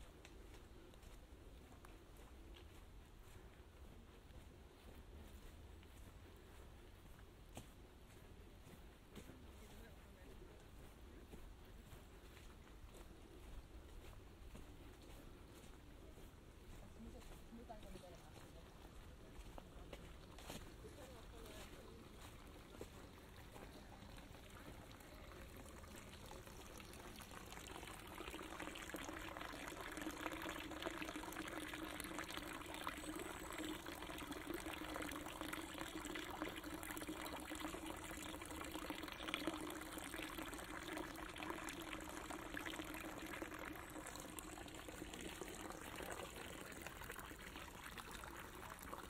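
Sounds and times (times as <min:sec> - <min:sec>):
stream trickling and babbling: 0:00.0 - 0:49.0.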